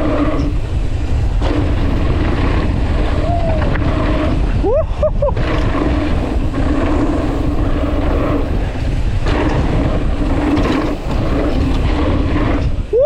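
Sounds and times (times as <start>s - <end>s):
tyres rolling on dirt: 0.0s - 13.0s
wind rushing over microphone: 0.0s - 13.0s.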